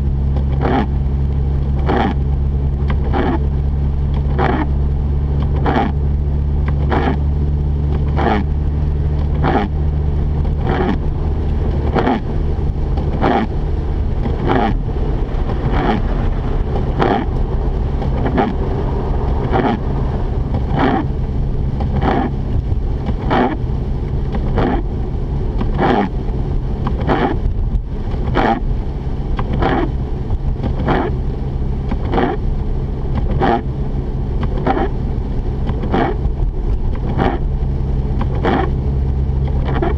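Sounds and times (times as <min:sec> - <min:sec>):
car engine and tyres drone: 0:00.0 - 0:39.9
windshield wipers swishing: 0:00.2 - 0:39.9.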